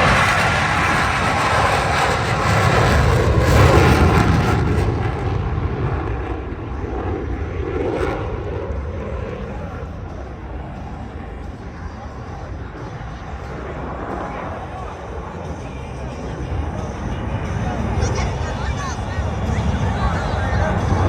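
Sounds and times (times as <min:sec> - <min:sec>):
jet passing: 0:00.0 - 0:21.0.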